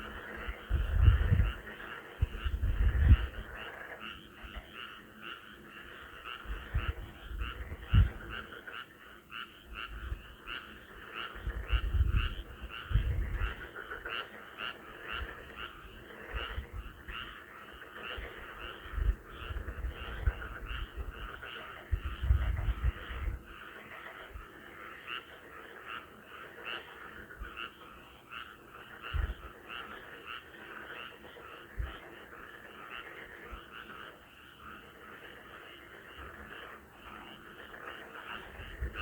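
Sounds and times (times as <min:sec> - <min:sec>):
frogs croaking: 0:00.0 - 0:39.0.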